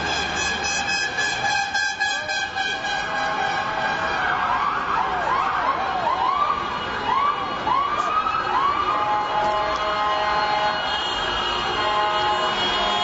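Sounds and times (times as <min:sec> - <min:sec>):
emergency vehicle sirens: 0:00.0 - 0:13.0.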